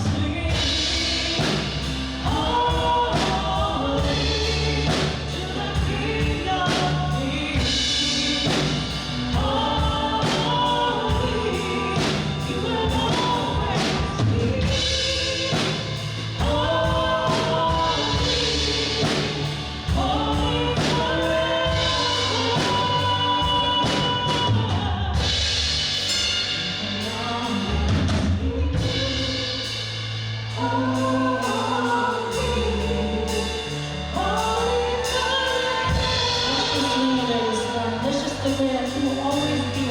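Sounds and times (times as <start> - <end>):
bass guitar: 0.0 - 39.9
drum kit: 0.0 - 39.9
gospel band playing: 0.0 - 39.9
group of singers: 0.0 - 39.9.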